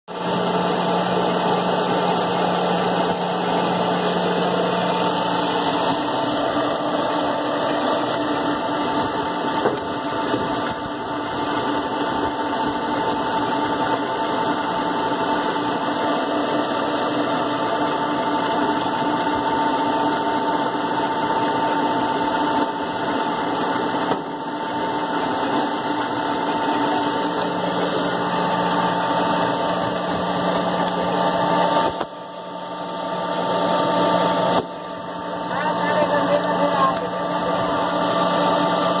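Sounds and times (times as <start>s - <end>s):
pump motor humming: 0.1s - 39.0s.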